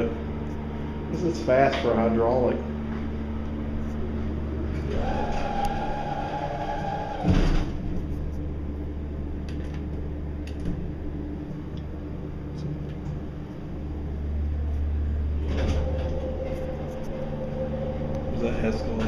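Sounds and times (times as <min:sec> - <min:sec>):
elevator low hum: 0:00.0 - 0:19.0
high steady elevator whine: 0:00.0 - 0:19.0.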